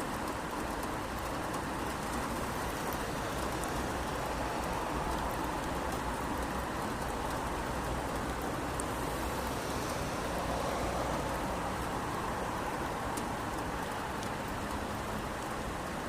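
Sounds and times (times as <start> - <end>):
rain hissing on street: 0.0 - 16.0
water dripping ticks: 0.0 - 16.0.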